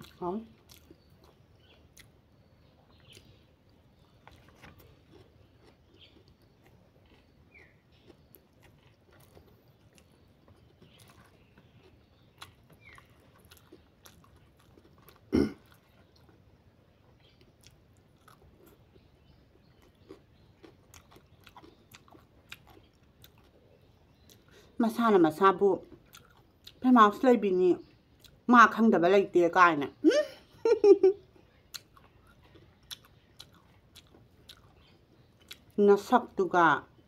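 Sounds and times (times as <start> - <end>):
chewing and mouth sounds: 0.0 - 24.7, 25.8 - 26.8, 31.3 - 35.8.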